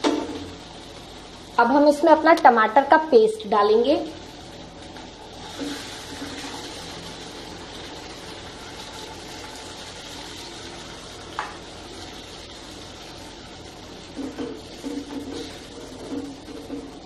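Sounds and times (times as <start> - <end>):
tomato paste sizzling in butter: 0.0 - 17.0.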